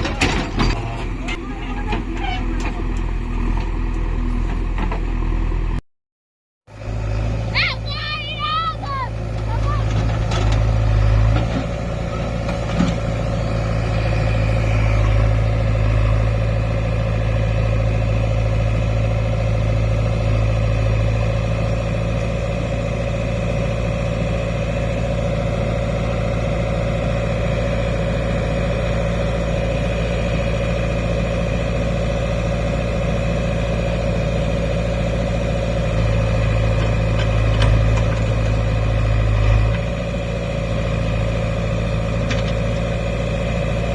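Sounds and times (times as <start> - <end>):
heavy diesel machinery running: 0.0 - 5.8, 6.7 - 43.9.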